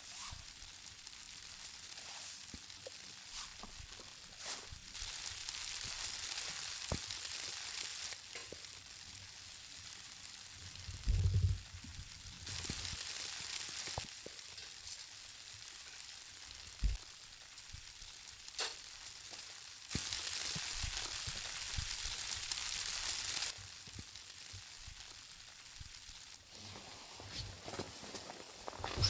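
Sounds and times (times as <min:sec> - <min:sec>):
steak sizzling in a pan: 0:00.0 - 0:29.0.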